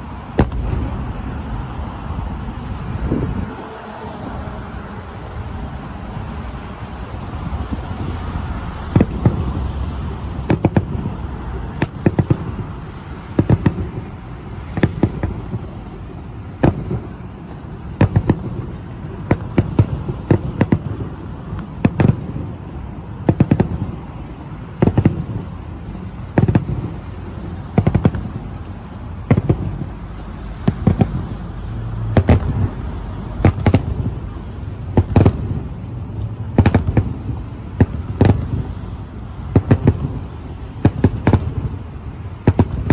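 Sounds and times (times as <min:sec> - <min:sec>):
firework shells booming: 0:00.0 - 0:03.6, 0:07.2 - 0:42.9
continuous low rumble: 0:00.0 - 0:42.9.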